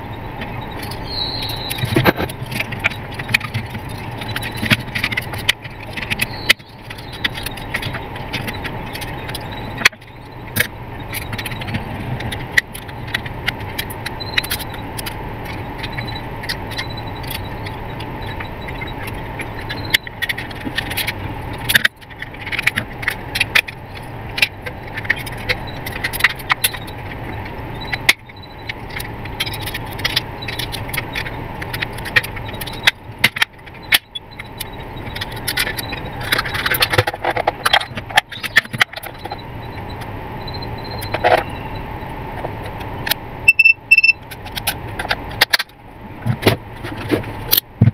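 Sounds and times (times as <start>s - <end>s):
low background hum: 0.0s - 47.9s
plastic parts clicking and rattling: 0.4s - 41.6s, 42.4s - 47.9s.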